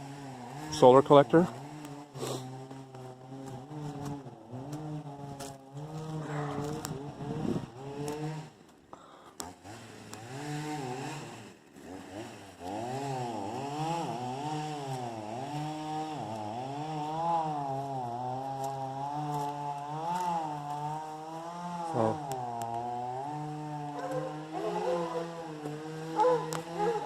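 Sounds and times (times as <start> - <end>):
chainsaw engine revving: 0.0 - 27.0.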